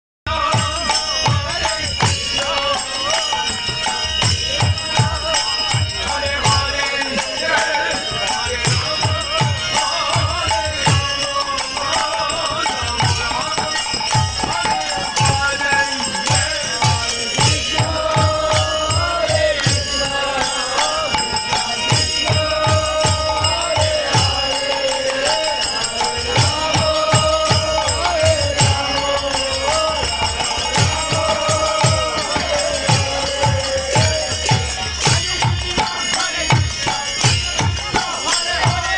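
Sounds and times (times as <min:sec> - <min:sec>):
drum beating steady rhythm: 0:00.3 - 0:38.9
hand cymbals jingling: 0:00.4 - 0:38.9.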